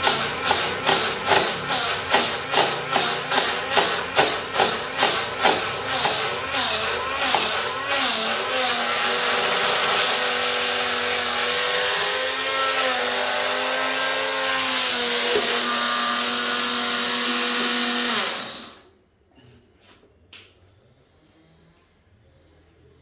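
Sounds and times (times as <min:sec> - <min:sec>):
blender motor grinding: 0:00.0 - 0:18.9.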